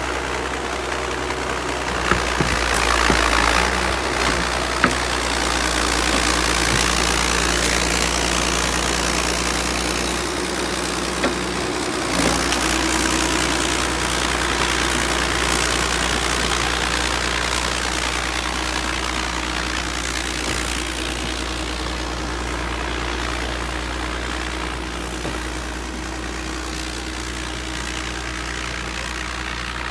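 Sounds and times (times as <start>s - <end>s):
bulldozer diesel engine: 0.0s - 29.9s.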